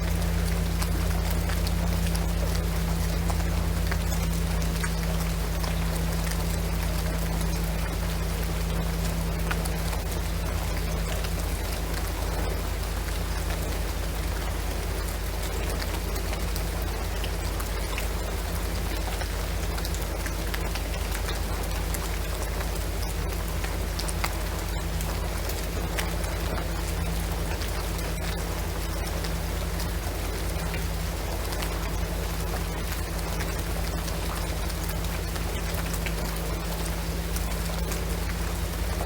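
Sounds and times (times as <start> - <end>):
faint low hum: 0.0 - 39.0
rain pattering on roof and trees: 0.0 - 39.0.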